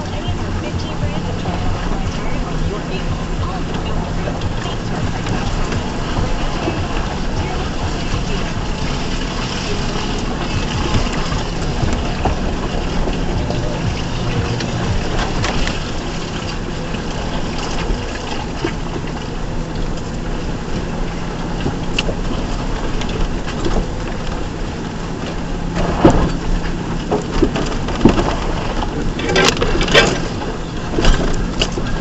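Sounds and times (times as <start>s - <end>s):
pickup truck engine running: 0.0s - 32.0s
tyres and body over rough ground: 0.0s - 32.0s.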